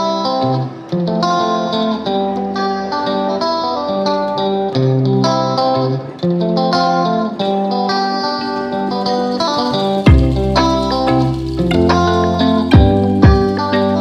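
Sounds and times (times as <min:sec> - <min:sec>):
plucked guitar music: 0:00.0 - 0:14.0.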